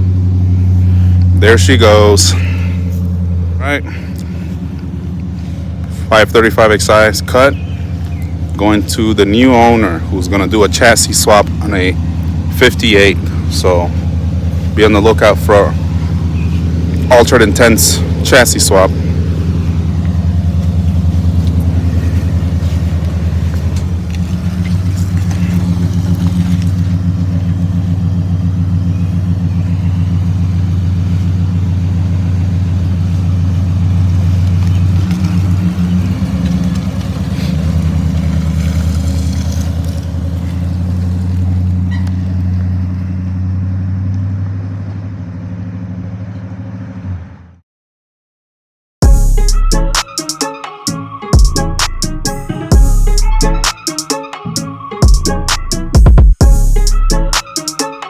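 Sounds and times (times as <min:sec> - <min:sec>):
car engine running: 0:00.0 - 0:44.3, 0:49.0 - 0:58.0.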